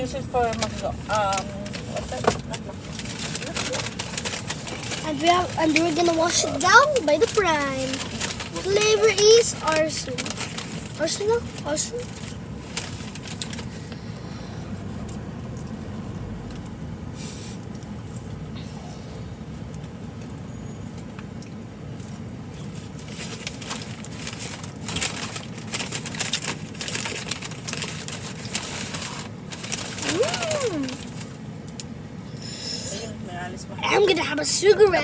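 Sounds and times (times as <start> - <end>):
car cabin road and engine noise: 0.0 - 35.0.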